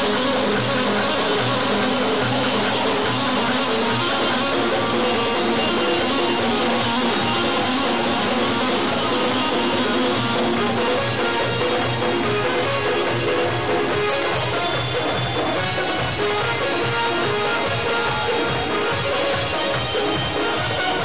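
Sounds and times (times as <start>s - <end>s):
keyboard: 0.0s - 21.0s
live band playing: 0.0s - 21.0s.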